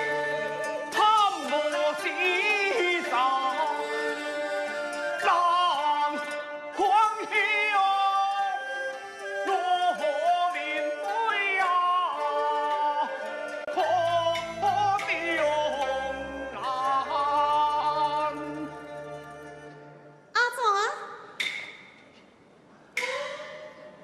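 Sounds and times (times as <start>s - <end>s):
traditional instrumental accompaniment: 0.0s - 20.6s.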